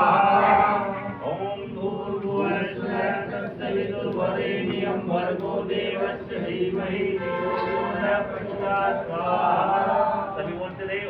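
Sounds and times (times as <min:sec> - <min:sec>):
mantras chanted aloud: 0:00.0 - 0:11.0.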